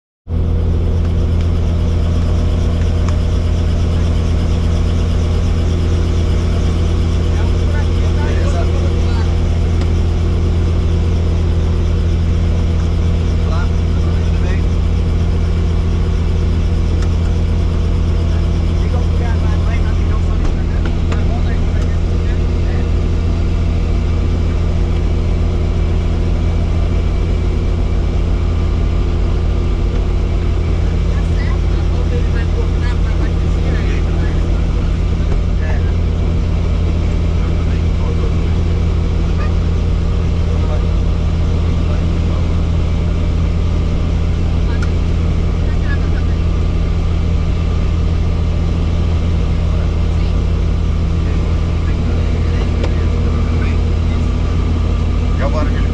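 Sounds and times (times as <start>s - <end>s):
helicopter rotor drone: 0.3s - 55.9s.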